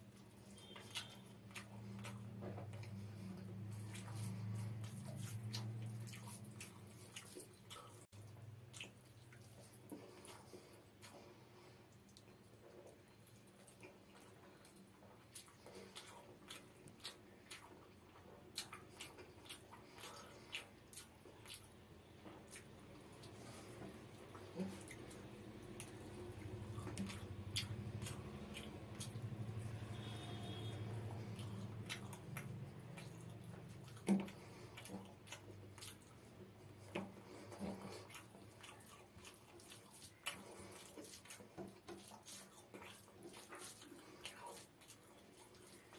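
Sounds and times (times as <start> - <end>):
fingers mixing rice: 0.0 - 45.9
wet chewing clicks and smacks: 0.0 - 45.9.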